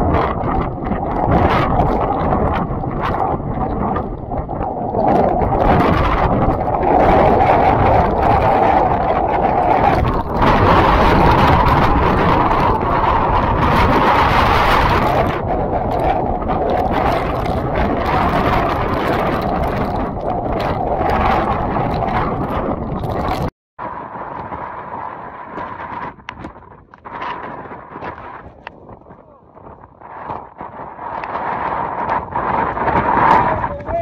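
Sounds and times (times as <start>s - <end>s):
wind and rain buffeting microphone: 0.0s - 34.0s.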